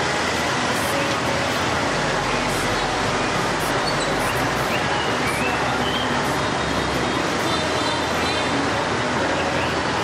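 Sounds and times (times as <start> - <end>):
dense traffic engines rushing: 0.0 - 10.0.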